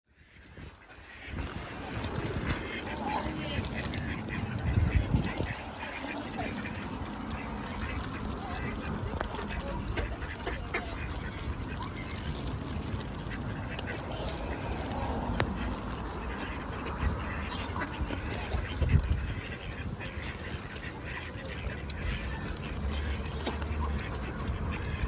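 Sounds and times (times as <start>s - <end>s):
waterfowl calling: 0.1s - 25.0s.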